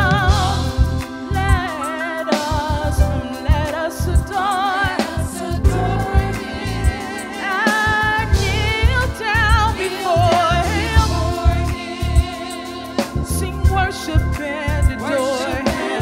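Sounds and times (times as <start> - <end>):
instrumental backing: 0.0 - 16.0
women singing gospel: 0.0 - 16.0.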